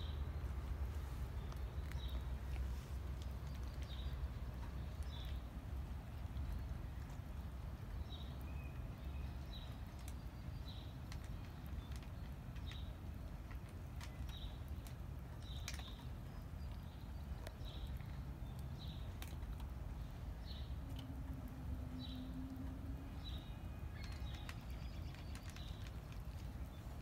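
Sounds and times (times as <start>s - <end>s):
cat crunching dry food: 0.6s - 27.0s.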